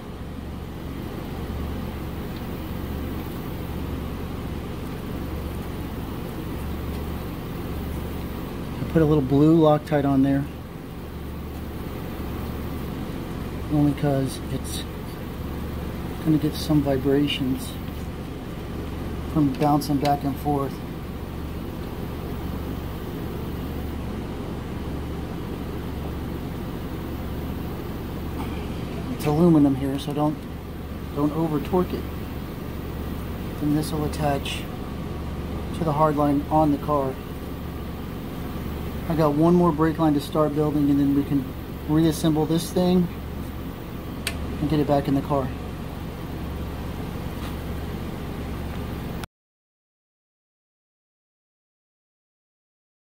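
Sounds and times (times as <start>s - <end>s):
low machinery hum: 0.0s - 49.3s.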